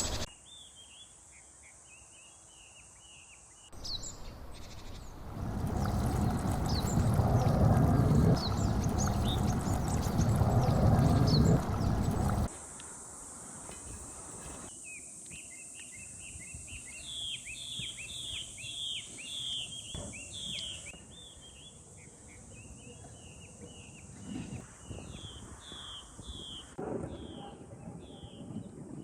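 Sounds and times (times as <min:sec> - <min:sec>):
songbird singing: 0:00.0 - 0:12.5, 0:13.8 - 0:29.0.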